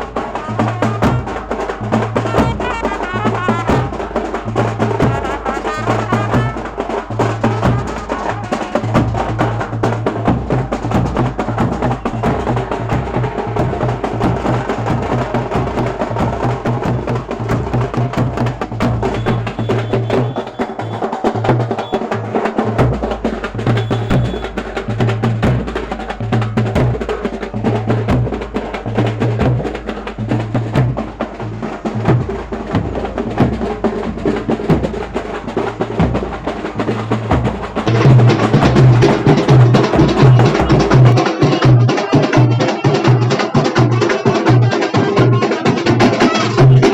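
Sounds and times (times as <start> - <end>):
loud music with fast drumming: 0.0 - 46.9.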